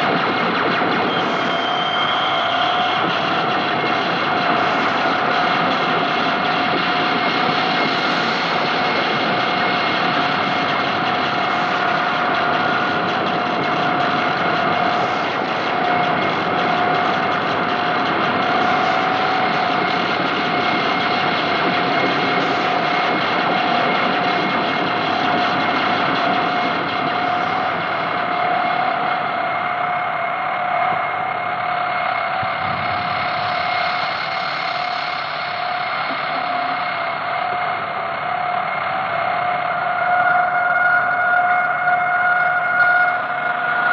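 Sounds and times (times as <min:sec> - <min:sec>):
dense noise music wash: 0:00.0 - 0:43.9.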